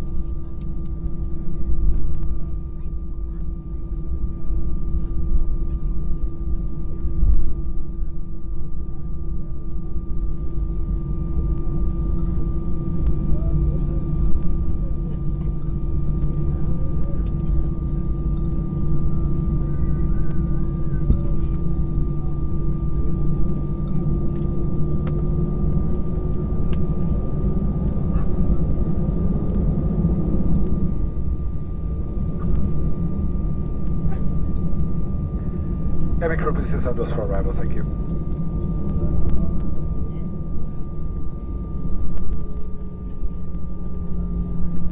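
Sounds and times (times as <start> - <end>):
airliner cabin engine rumble: 0.0 - 44.9
low hum: 0.0 - 44.9.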